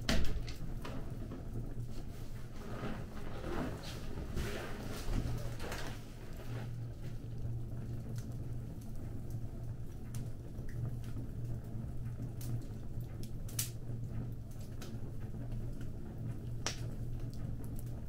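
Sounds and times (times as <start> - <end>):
fire crackling: 0.0 - 18.0.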